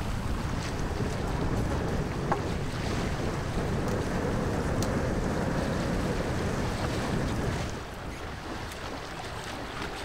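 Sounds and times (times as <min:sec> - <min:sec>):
water rushing along boat hull: 0:00.0 - 0:10.0
wind buffeting microphone: 0:00.0 - 0:10.0.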